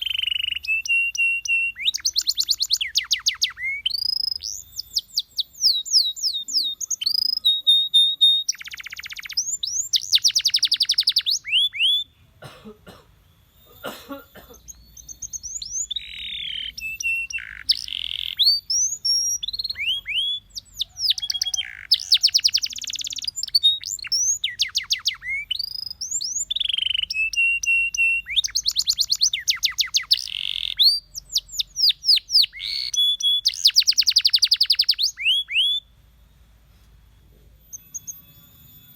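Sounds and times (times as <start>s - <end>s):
canary singing: 0.0s - 12.4s, 13.1s - 36.4s, 37.5s - 38.9s.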